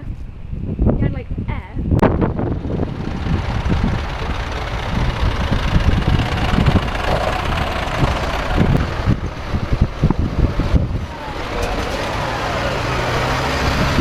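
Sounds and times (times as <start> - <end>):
wind rumbling on microphone: 0.0 - 14.0
tractor engine running: 2.0 - 14.0.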